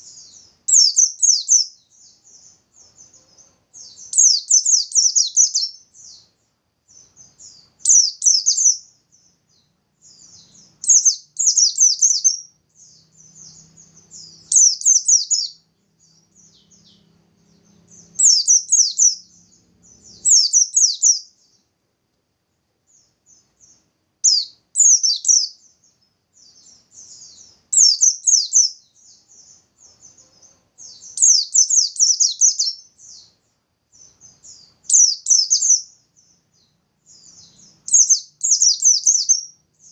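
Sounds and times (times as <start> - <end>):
soft bird twittering: 0.0 - 21.7, 22.9 - 39.9
bird singing rapid bursts: 0.0 - 21.8, 22.9 - 39.9.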